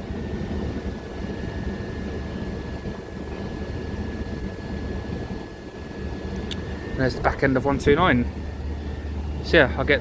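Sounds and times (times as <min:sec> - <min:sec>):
electric train rumble: 0:00.0 - 0:10.0
high whine: 0:00.0 - 0:10.0.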